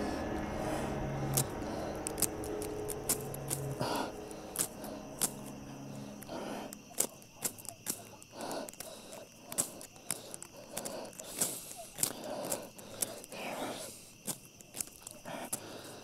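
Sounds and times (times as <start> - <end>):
flint striker scraping: 1.2 - 16.0.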